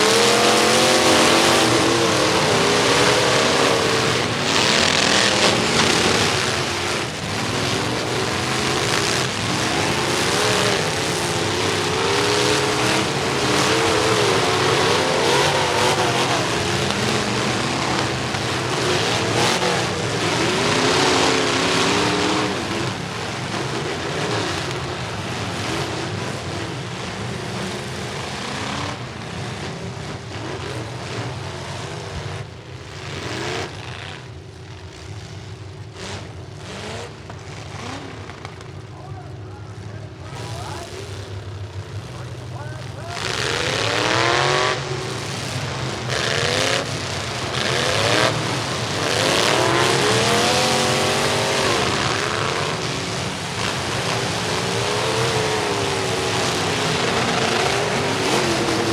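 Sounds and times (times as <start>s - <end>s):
crowd noise: 0.0s - 32.8s, 34.2s - 58.9s
truck engines revving: 0.0s - 58.9s.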